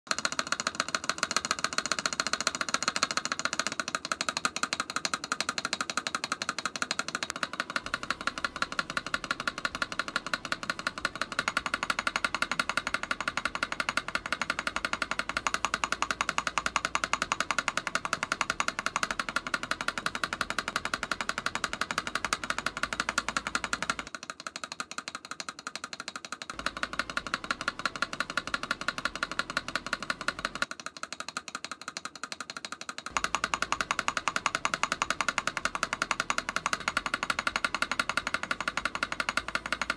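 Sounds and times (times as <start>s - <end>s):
fast typing on mechanical keyboard: 0.1s - 39.9s.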